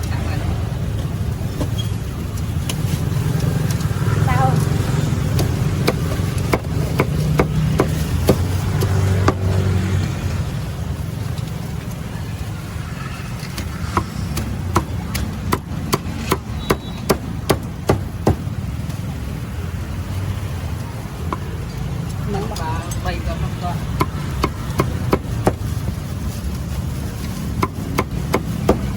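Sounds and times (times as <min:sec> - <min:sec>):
traffic rumble: 0:00.0 - 0:28.9.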